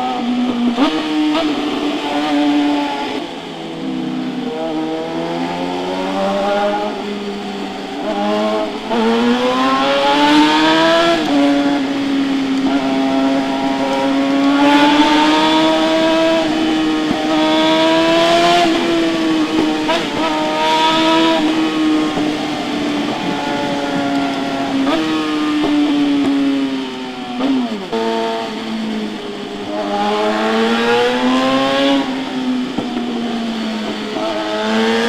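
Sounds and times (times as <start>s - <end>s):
motorcycle engine revving high: 0.0s - 35.0s.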